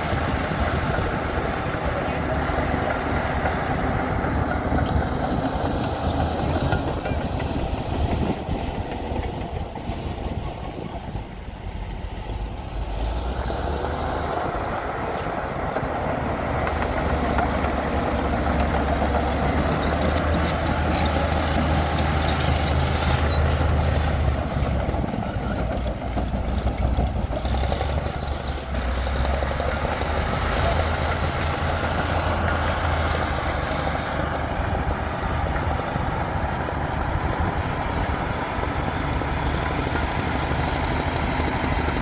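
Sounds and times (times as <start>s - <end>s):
bulldozer diesel engine: 0.0s - 42.0s.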